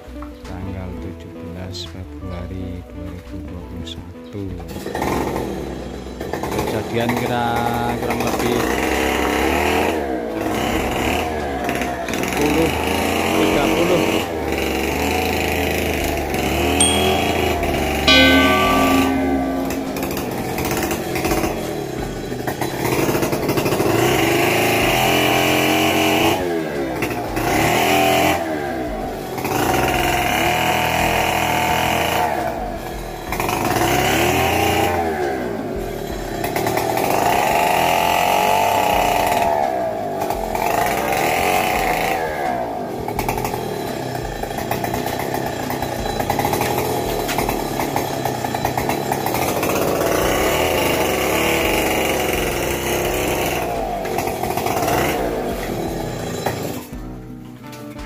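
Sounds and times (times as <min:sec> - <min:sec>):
chainsaw revving: 0:04.7 - 0:18.5, 0:21.2 - 0:57.1.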